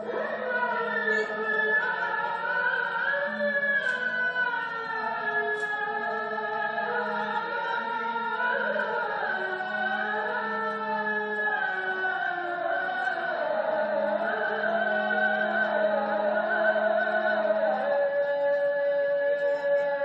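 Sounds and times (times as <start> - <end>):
person chanting: 0.0 - 20.0.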